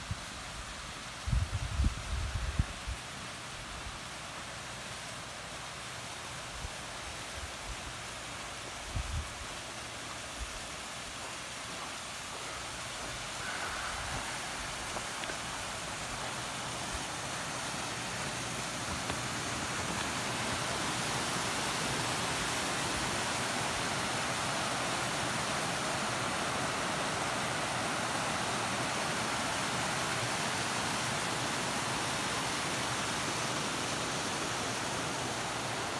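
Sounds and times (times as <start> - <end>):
waterfall rushing: 4.2 - 35.9.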